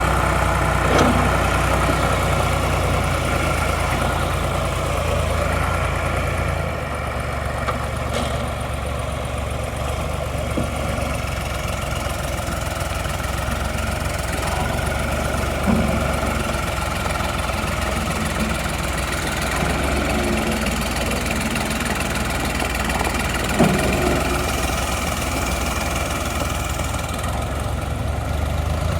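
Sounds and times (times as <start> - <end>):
backhoe engine idling: 0.0 - 28.9.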